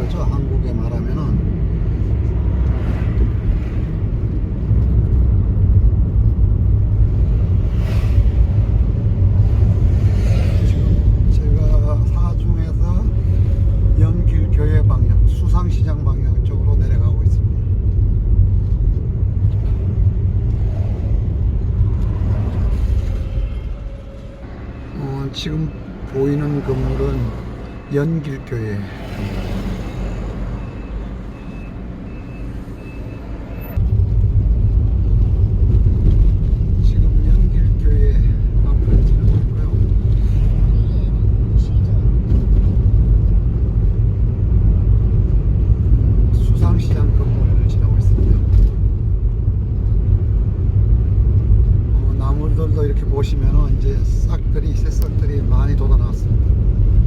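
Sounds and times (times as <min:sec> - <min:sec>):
car cabin engine and road noise: 0:00.0 - 0:57.0.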